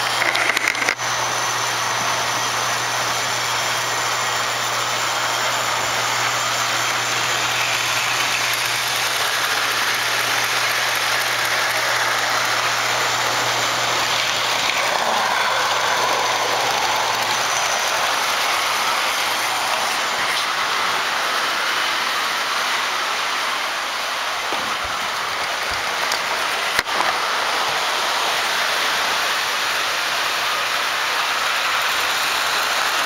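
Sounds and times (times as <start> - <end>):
model trains rolling whir: 0.0 - 33.0.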